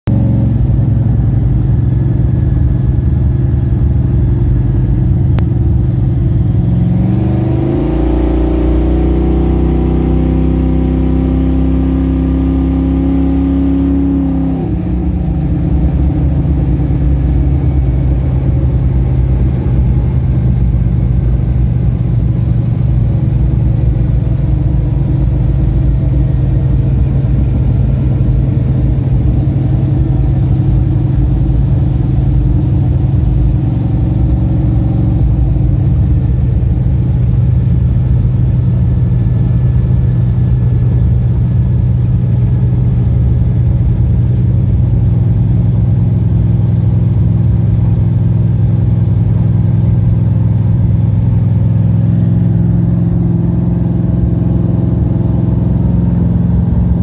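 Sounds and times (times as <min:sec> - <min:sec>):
car engine cruising from inside: 0:00.0 - 0:57.0.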